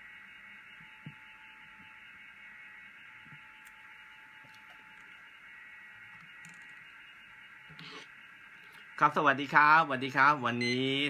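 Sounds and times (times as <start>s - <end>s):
electronic hiss: 0.0s - 11.0s
faint hum-like tone: 0.0s - 11.0s.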